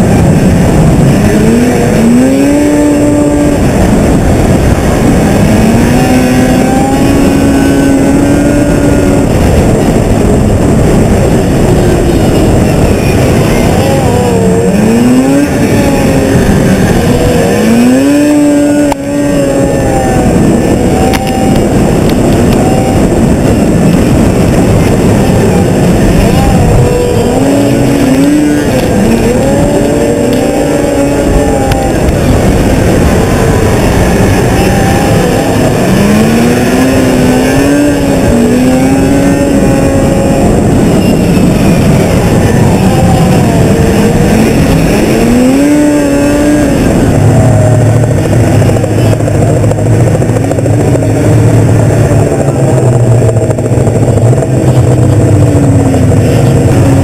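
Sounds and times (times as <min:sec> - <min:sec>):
rushing noise: 0:00.0 - 0:57.0
snowmobile engine revving: 0:00.0 - 0:57.0
steady low drone: 0:00.0 - 0:57.0.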